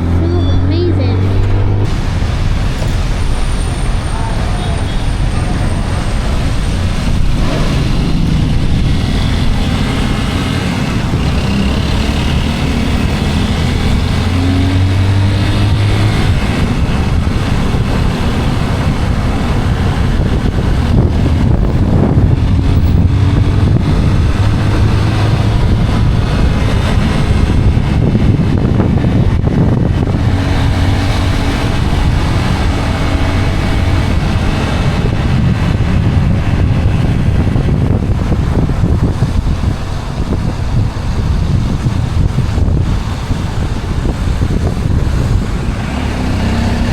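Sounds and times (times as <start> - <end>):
motorcycle engine accelerating: 0.0 - 3.4, 5.4 - 46.9
road noise: 0.0 - 46.9
wind rushing over microphone: 0.0 - 46.9.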